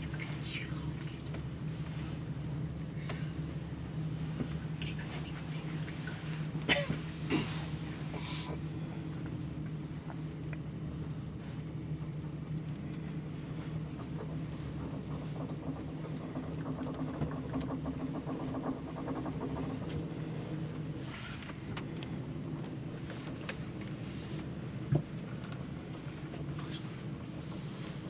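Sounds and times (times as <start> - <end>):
cable car hum and rumble: 0.0 - 28.0.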